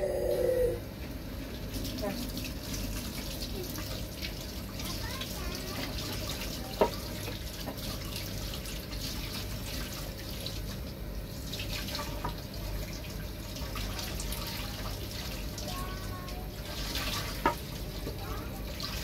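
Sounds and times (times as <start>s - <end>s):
tap water running into sink: 1.5s - 19.0s.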